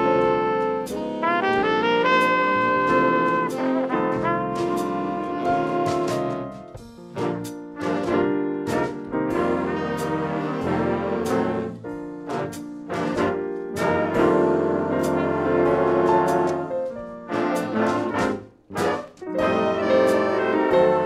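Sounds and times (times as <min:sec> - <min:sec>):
brass band playing chords: 0:00.0 - 0:21.0.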